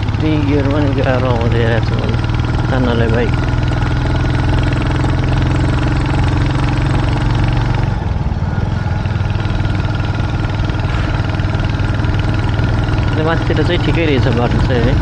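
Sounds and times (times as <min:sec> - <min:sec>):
motorcycle engine straining uphill: 0:00.0 - 0:15.0.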